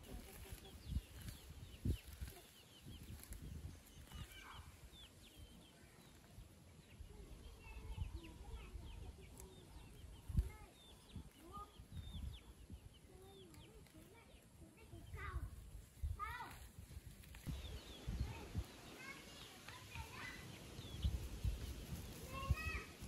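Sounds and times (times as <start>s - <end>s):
birds chirping softly: 0.0s - 23.0s.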